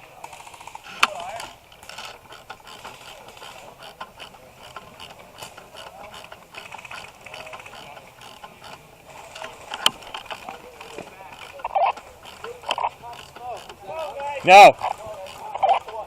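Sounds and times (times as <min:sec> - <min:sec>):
small mechanical clicks and rattles: 0:00.1 - 0:16.0.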